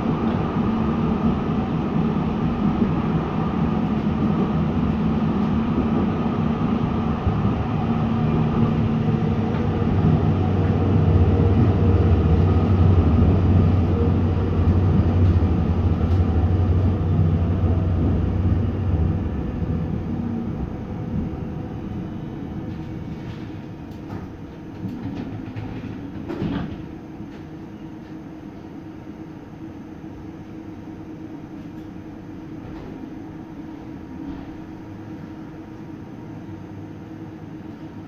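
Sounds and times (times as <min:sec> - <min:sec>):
light-rail car drive hum: 0:00.0 - 0:38.0.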